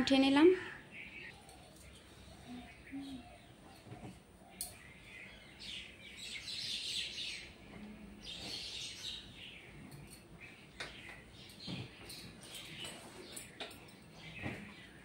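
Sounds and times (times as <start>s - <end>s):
small birds twittering: 0.6s - 15.0s.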